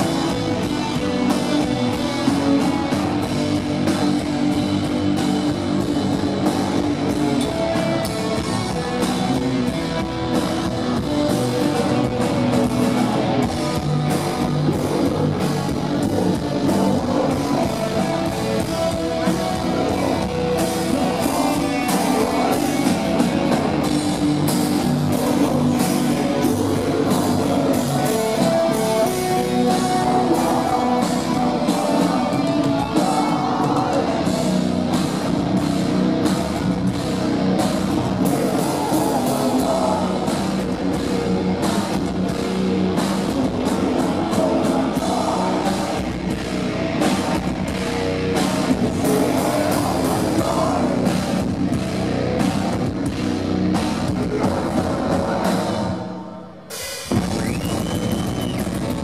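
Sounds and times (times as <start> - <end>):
fast drum kit: 0.0 - 56.0, 56.7 - 59.0
distorted electric guitars: 0.0 - 59.0
vocals: 0.0 - 59.0.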